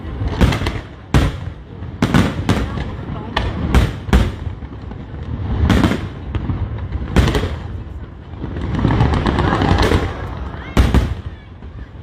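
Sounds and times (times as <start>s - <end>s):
firework bangs: 0.0s - 12.0s
firework crackles: 0.0s - 12.0s
low rolling rumble: 0.0s - 12.0s.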